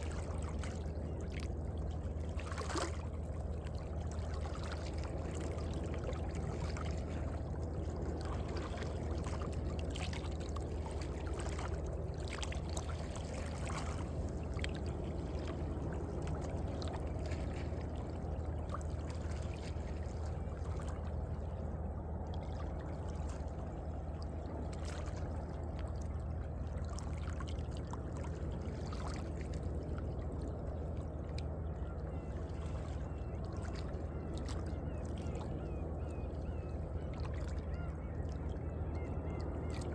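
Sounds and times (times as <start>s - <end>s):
constant low rumble: 0.0s - 39.9s
small splashes and trickles: 0.0s - 39.9s.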